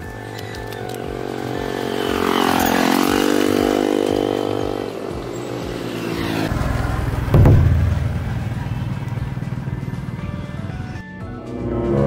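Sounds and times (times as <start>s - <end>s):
motorbike approaching: 0.0s - 12.0s
motorbike engine: 0.0s - 12.0s.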